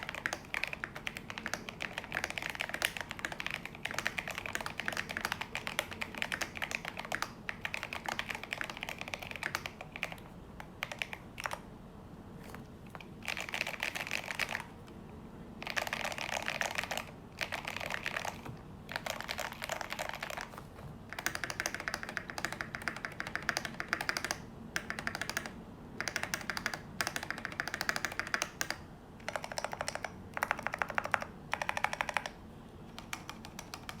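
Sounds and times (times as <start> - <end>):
mechanical keyboard typing: 0.0 - 11.6, 12.4 - 14.7, 15.6 - 34.0.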